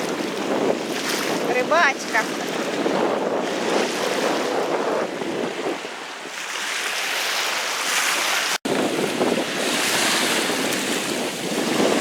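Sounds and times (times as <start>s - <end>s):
sea surf breaking: 0.0s - 12.0s
wind on microphone: 0.0s - 12.0s.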